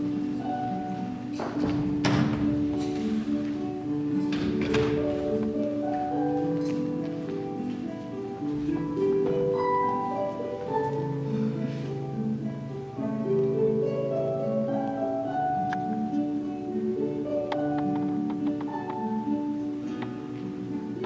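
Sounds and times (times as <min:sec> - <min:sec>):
soft instrumental music: 0:00.0 - 0:21.0.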